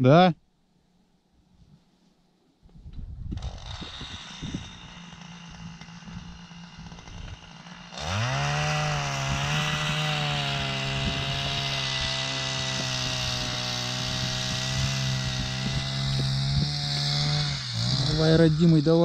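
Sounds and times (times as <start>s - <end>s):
small engine humming: 3.2s - 19.0s
engine revving: 3.4s - 19.0s.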